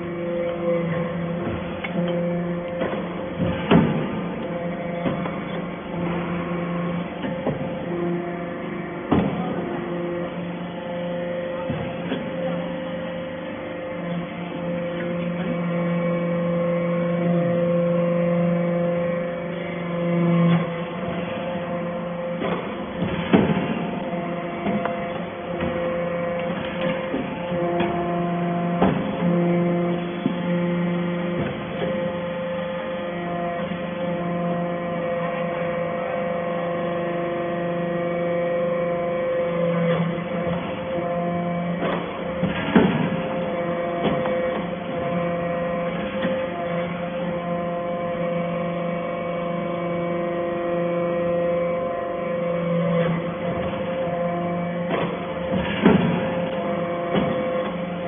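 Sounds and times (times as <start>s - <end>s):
baler machine hum: 0.0s - 58.0s.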